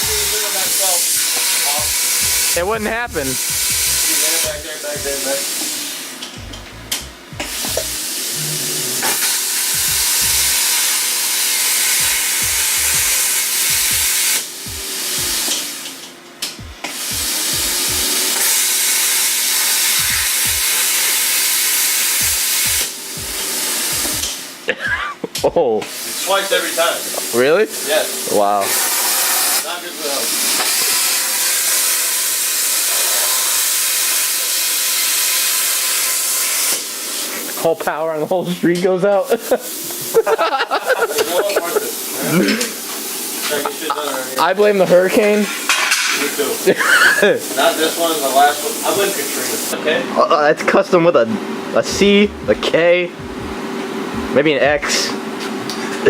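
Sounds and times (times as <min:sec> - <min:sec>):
plasma cutter hissing: 0:00.0 - 0:24.7, 0:25.3 - 0:50.0.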